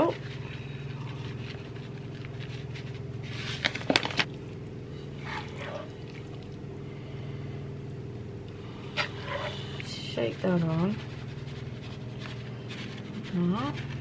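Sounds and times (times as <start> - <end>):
utensil turning pasta: 0.0 - 6.8, 8.3 - 14.0
steady low hum: 0.0 - 14.0.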